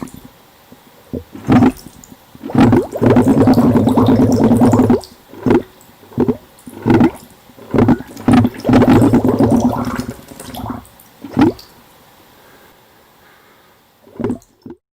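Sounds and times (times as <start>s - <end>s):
underwater bubbling: 0.0s - 11.9s, 14.0s - 14.8s.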